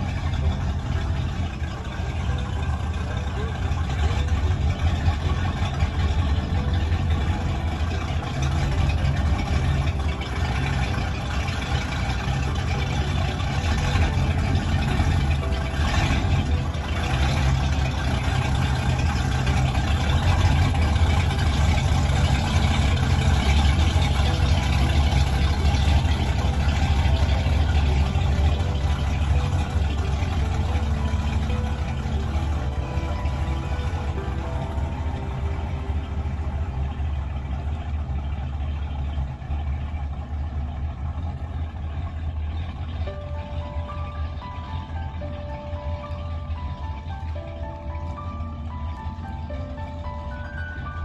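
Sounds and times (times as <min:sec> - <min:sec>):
boat engine droning: 0:00.0 - 0:51.0.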